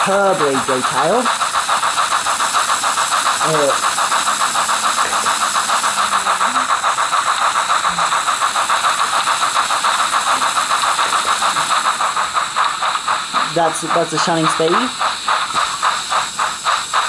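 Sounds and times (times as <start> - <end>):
hissing steam: 0.0 - 17.0
model steam locomotive exhaust chuffs: 0.0 - 17.0.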